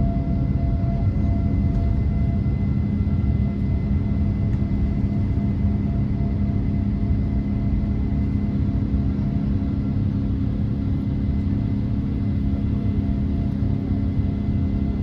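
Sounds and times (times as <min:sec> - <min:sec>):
constant tonal hum: 0:00.0 - 0:15.0
jet engine and airflow roar: 0:00.0 - 0:15.0.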